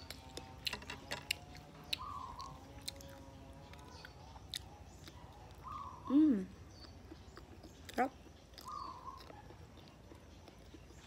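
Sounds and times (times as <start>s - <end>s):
person chewing banana: 0.0s - 5.6s, 6.5s - 11.0s.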